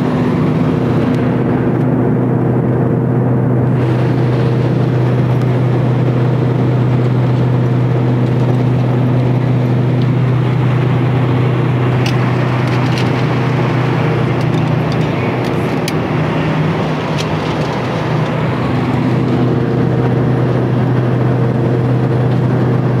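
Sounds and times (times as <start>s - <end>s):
airflow noise: 0.0s - 23.0s
turboprop cabin drone: 0.0s - 23.0s.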